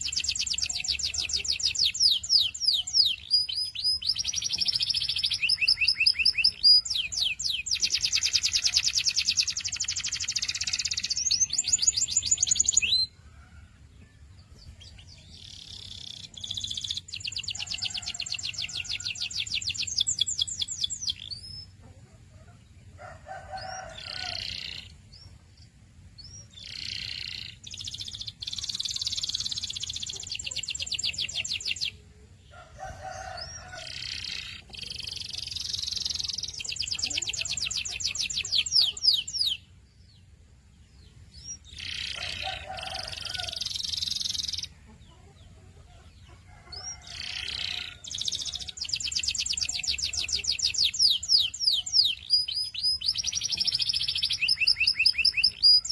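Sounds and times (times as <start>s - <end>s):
canary singing: 0.0s - 13.5s, 14.5s - 21.9s, 23.3s - 25.4s, 26.1s - 40.4s, 41.1s - 55.9s.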